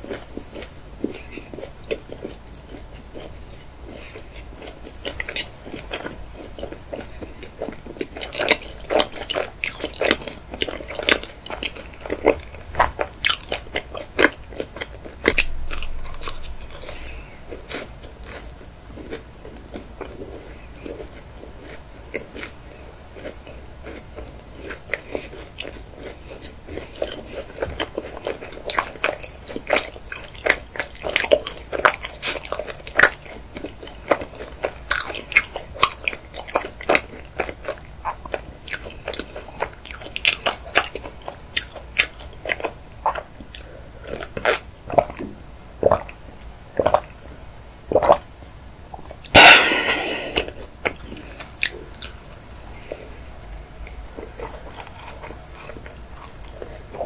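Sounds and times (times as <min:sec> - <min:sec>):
person chewing wetly: 0:00.0 - 0:57.0.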